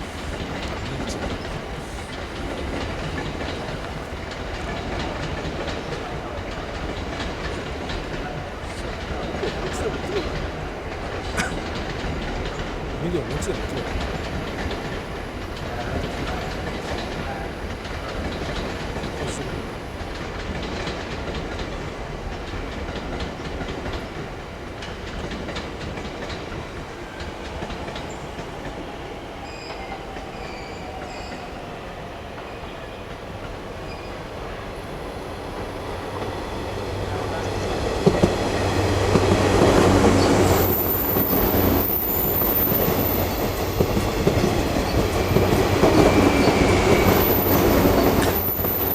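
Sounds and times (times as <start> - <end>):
train wheels clattering on rails: 0.0 - 48.9.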